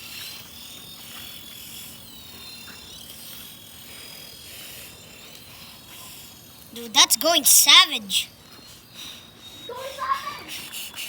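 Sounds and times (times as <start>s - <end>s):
toy helicopter motor whine: 0.0s - 11.0s.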